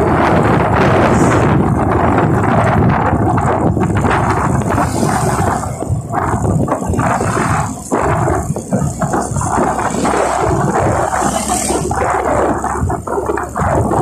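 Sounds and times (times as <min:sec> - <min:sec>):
motorcycle road and motor noise: 0:00.0 - 0:14.0
wind buffeting microphone: 0:00.0 - 0:14.0.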